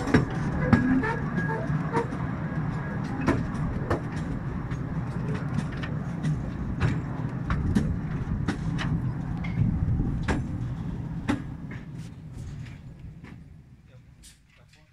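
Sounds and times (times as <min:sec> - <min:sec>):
wheels clicking on rails: 0:00.0 - 0:13.6
train rumbling along track: 0:00.0 - 0:14.9.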